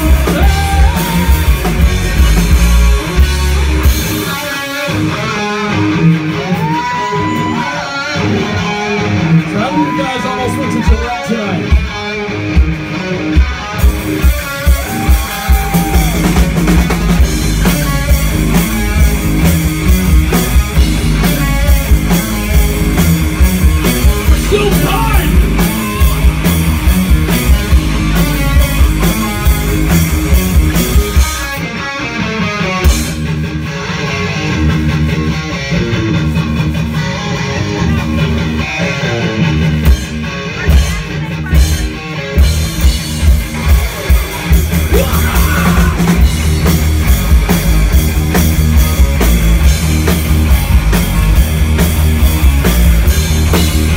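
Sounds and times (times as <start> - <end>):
drum kit beat: 0.0 - 7.6, 11.6 - 33.8, 37.8 - 53.9
bass guitar: 0.0 - 53.9
electric guitars: 0.0 - 53.9.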